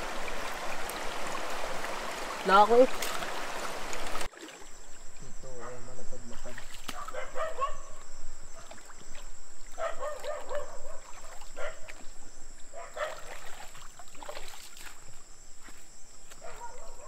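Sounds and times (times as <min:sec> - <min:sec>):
river water sloshing and trickling: 0:00.0 - 0:17.0.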